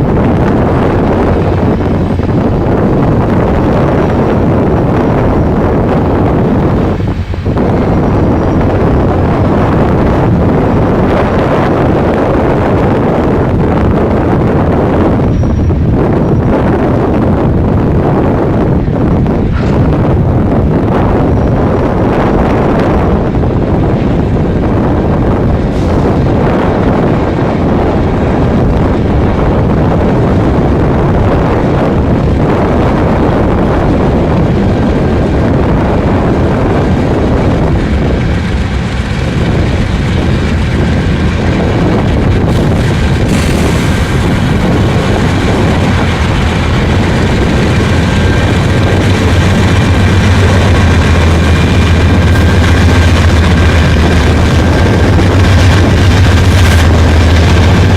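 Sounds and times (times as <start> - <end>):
diesel locomotive drone: 0.0 - 57.9
freight train cars rumbling: 0.0 - 57.9.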